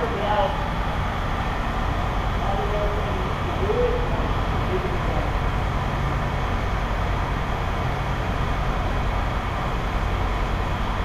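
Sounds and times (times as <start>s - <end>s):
mechanical rumble and hum: 0.0s - 11.0s.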